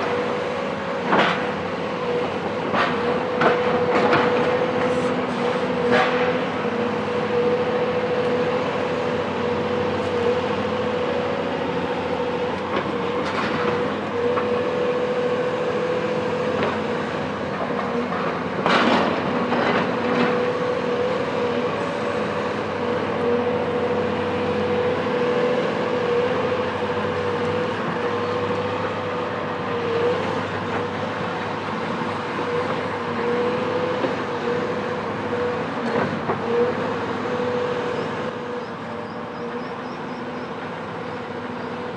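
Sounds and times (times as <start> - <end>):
excavator diesel engine under load: 0.0 - 41.9.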